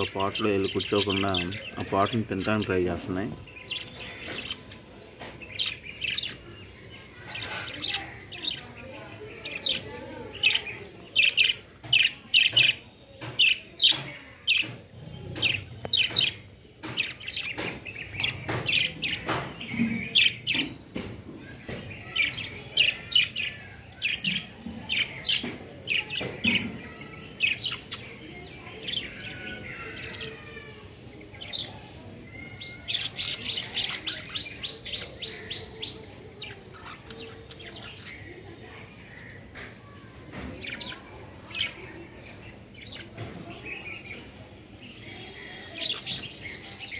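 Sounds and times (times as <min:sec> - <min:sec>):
lovebirds chirping: 0:00.0 - 0:46.9.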